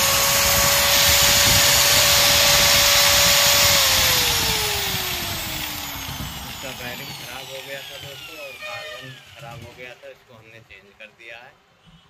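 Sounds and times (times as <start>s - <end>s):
electric cutter motor whining: 0.0s - 10.1s.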